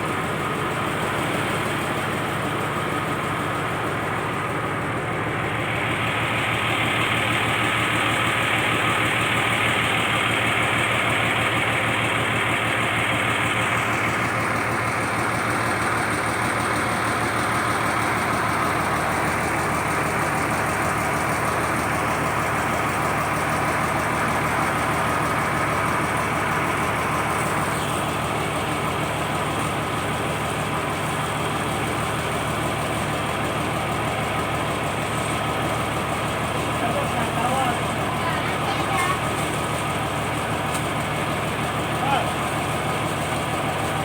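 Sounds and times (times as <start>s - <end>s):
boat diesel engine humming: 0.0s - 44.0s.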